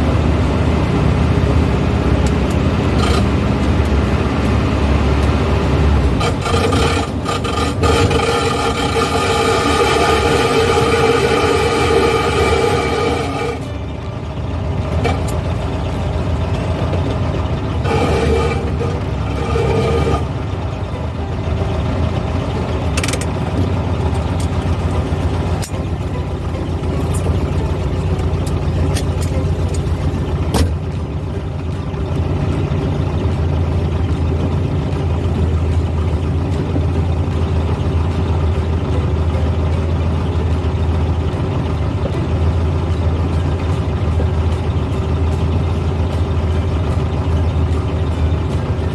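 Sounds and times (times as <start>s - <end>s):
car engine under load: 0.0s - 48.9s
road noise: 0.0s - 48.9s.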